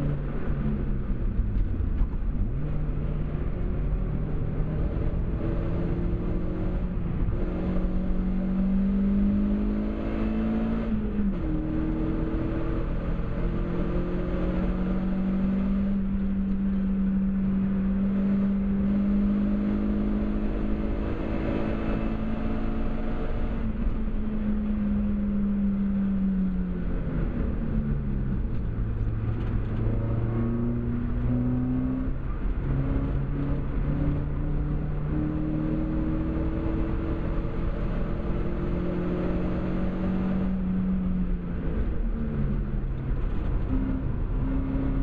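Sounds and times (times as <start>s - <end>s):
car engine at high revs: 0.0s - 45.0s.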